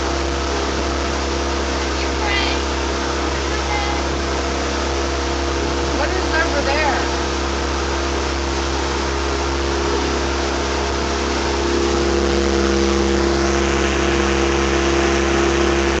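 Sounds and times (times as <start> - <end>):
motorboat engine running: 0.0 - 16.0
water noise: 0.0 - 16.0.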